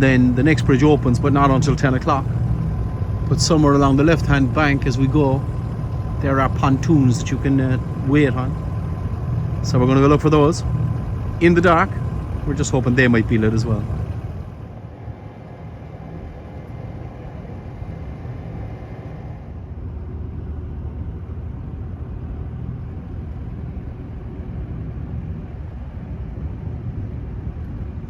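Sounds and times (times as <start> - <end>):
boat engine humming: 0.0 - 23.7.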